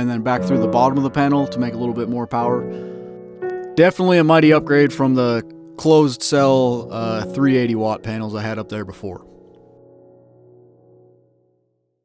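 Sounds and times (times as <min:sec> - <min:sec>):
soft sustained keyboard chord: 0:00.0 - 0:12.0.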